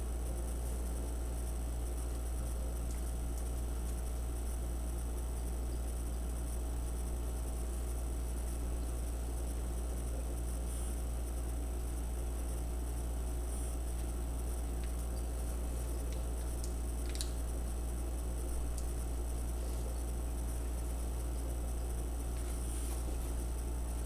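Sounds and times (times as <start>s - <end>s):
constant hiss: 0.0s - 24.0s
low electrical hum: 0.0s - 24.0s.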